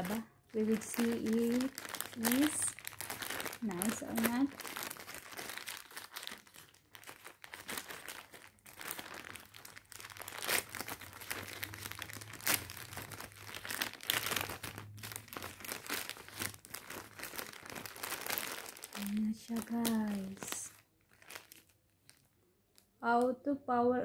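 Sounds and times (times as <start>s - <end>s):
plastic mailer crinkling and tearing: 0.0s - 22.8s.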